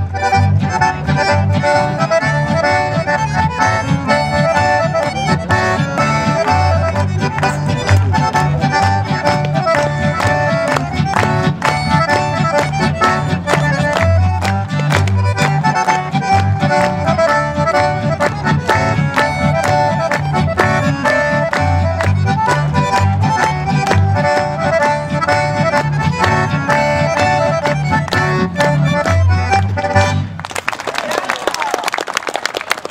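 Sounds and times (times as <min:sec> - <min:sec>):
strummed acoustic guitar: 0:00.0 - 0:30.3
plucked double bass: 0:00.0 - 0:30.4
accordions playing: 0:00.0 - 0:30.5.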